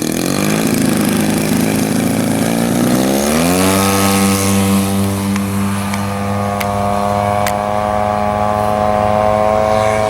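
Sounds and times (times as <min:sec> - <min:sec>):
model airplane two-stroke engine: 0:00.0 - 0:10.0.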